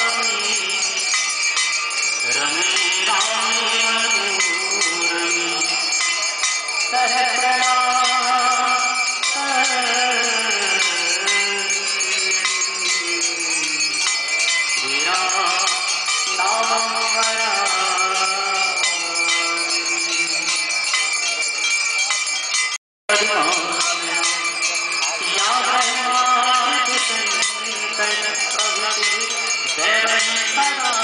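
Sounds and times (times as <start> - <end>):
man singing a hymn: 0.0 - 1.0, 2.2 - 5.9, 6.9 - 14.0, 14.8 - 20.5, 23.1 - 31.0
hand bells jangling: 0.0 - 31.0.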